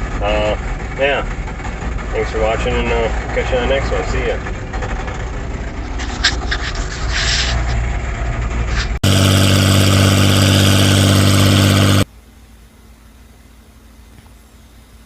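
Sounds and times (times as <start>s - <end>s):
engine idling steadily: 0.0s - 15.0s
engine rough low rumble: 0.0s - 15.0s.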